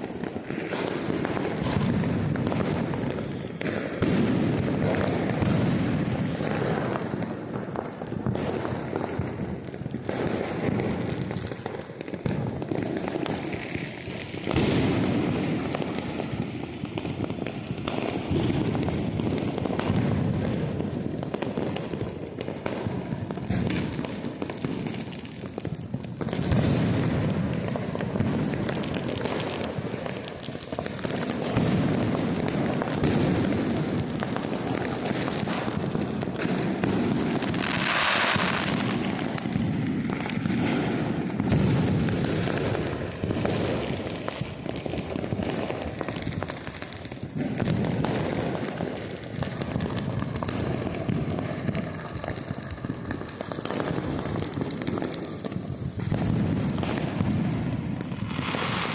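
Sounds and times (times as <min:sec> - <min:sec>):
firecrackers and fireworks banging: 0:00.0 - 0:58.9.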